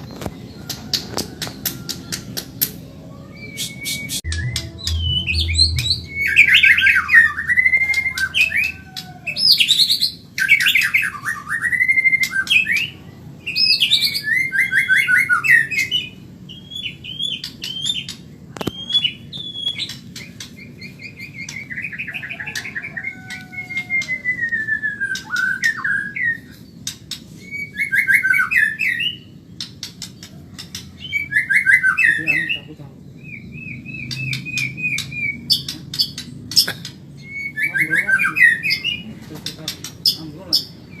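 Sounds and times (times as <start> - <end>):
bird singing trills and whistles: 0.0 - 41.0.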